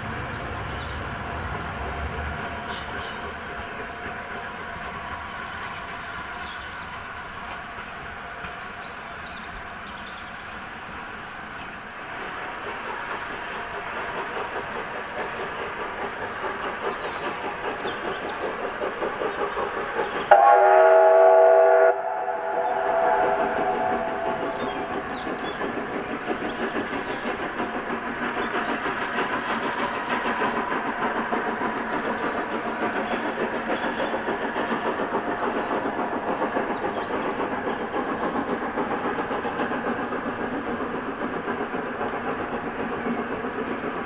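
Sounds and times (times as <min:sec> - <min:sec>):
distant steam locomotive chuffing: 0:00.0 - 0:44.0.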